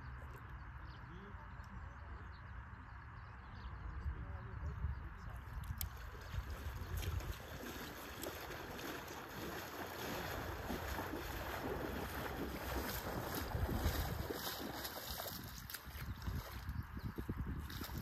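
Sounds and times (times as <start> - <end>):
wind buffeting microphone: 3.4 - 18.0.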